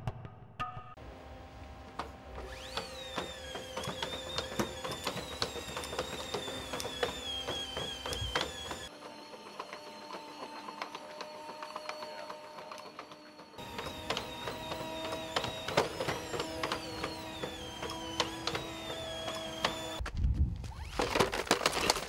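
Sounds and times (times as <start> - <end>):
robot machine whine: 1.0 - 20.0
steady whine and hum: 1.0 - 20.0.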